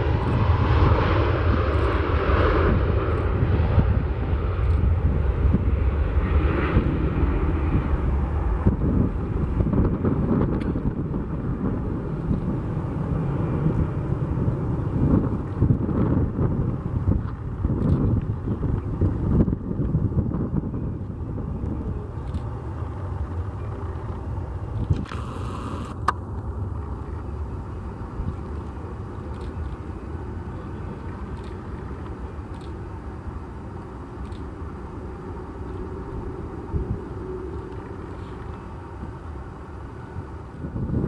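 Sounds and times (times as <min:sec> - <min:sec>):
jet engines idling: 0:00.0 - 0:41.0
wind on microphone: 0:00.0 - 0:41.0.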